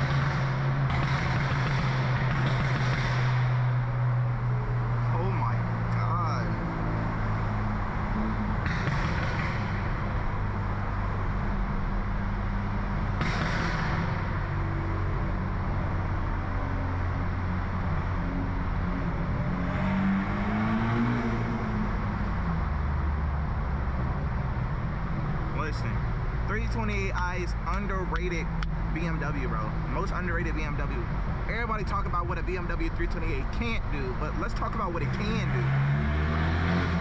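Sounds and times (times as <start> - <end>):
car engine drone through exhaust: 0.0 - 37.0.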